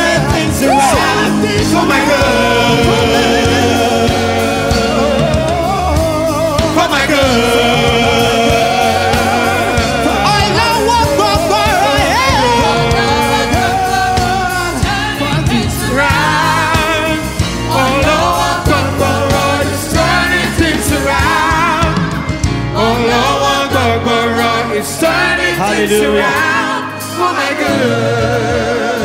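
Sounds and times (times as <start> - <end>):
gospel choir singing: 0.0 - 29.0
keyboard-led band with drums: 0.0 - 29.0.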